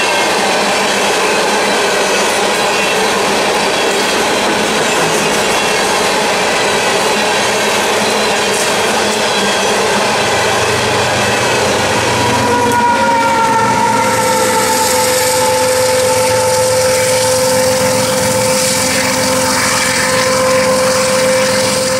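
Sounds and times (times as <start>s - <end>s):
diesel locomotive whine: 0.0s - 21.9s
freight cars rumbling on rails: 0.0s - 21.9s.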